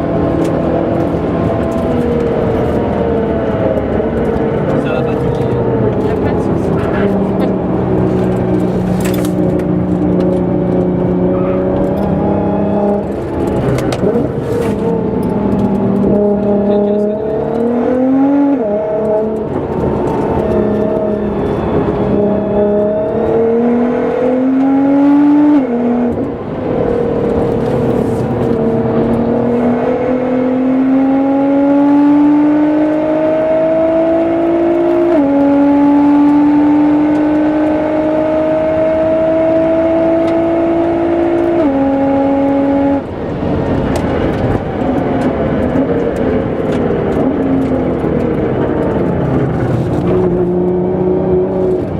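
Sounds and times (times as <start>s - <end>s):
car engine accelerating hard: 0.0s - 51.9s.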